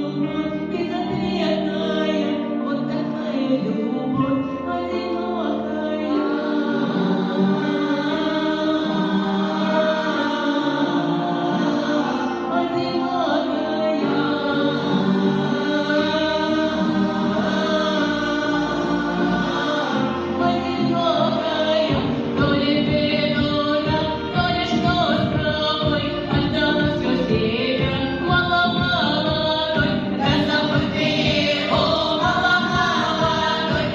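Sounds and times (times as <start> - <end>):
choir singing: 0.0 - 25.3, 26.1 - 33.9
musical accompaniment with bass line: 0.0 - 33.9.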